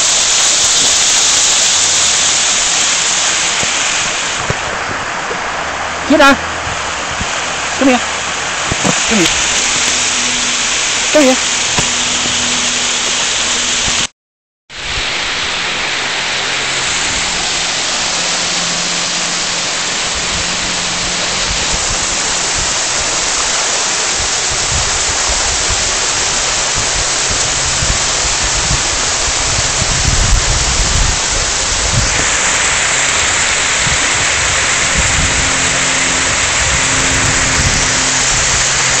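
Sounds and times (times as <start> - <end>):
low rumbling: 0.0 - 14.1, 14.8 - 39.0
waterfall rushing: 0.0 - 14.1, 14.8 - 39.0.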